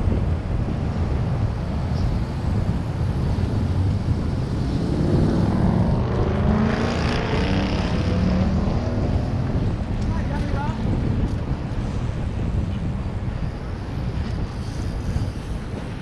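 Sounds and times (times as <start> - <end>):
road rumble: 0.0 - 16.0
steady wind: 0.0 - 16.0
vehicle engine drone: 0.0 - 16.0.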